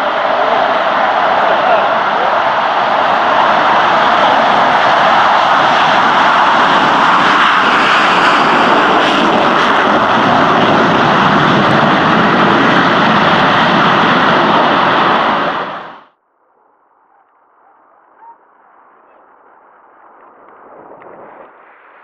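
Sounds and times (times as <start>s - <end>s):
jet engines roaring: 0.0s - 16.2s, 17.0s - 22.0s.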